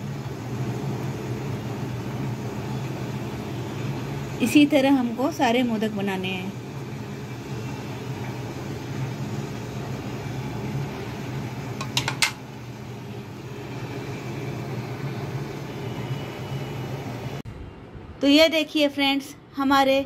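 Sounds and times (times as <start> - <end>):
electric fan humming: 0.0 - 20.0.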